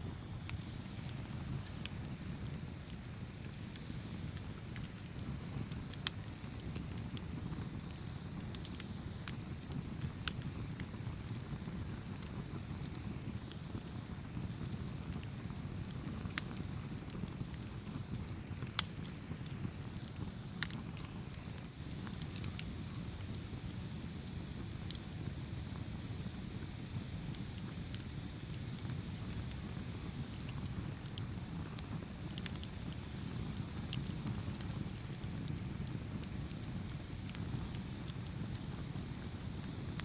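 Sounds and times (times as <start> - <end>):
campfire burning: 0.0 - 40.0
wood crackling and popping: 0.0 - 40.0.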